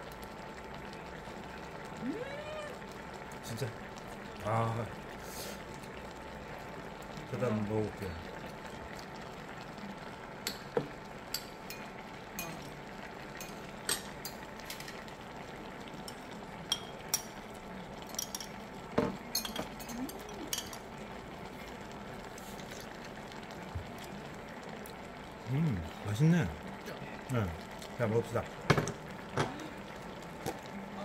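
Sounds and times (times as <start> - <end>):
stew simmering in pot: 0.0 - 31.0.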